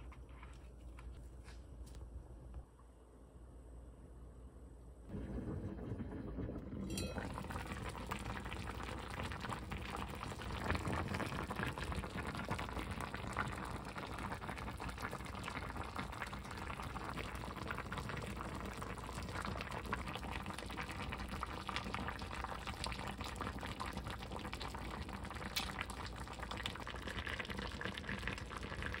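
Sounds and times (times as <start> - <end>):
stew bubbling in a pot: 5.1 - 29.0.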